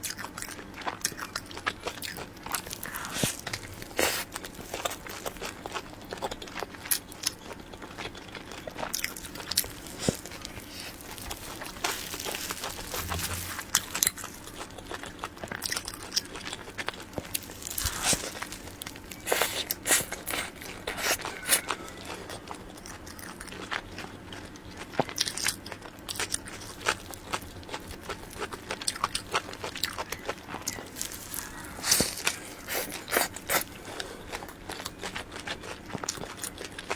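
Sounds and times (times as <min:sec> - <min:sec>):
biting and chewing cake: 0:00.0 - 0:36.9.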